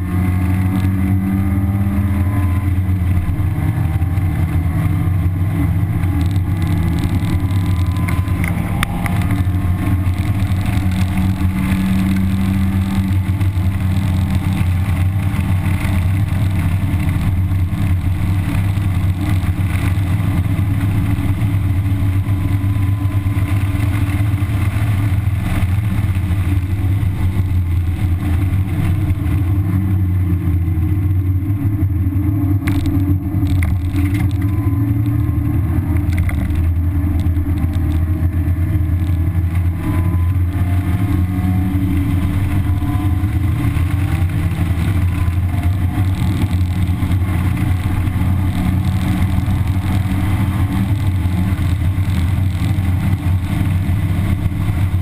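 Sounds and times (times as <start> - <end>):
car engine running hard: 0.0 - 55.0
road and wind rumble: 0.0 - 55.0.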